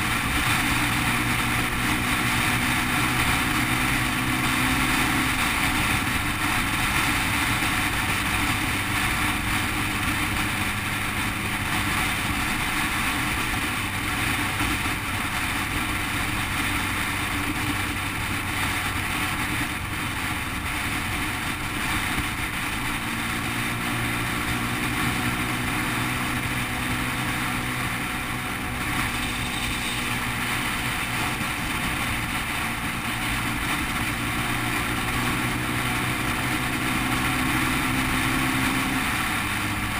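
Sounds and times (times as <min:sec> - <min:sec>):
motorcycle engine cruising: 0:00.0 - 0:39.9
wind rush over microphone: 0:00.0 - 0:39.9.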